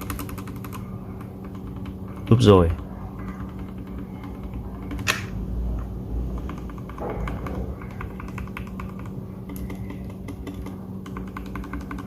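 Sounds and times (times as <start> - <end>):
mechanical keyboard typing: 0.0 - 5.2, 6.3 - 12.0.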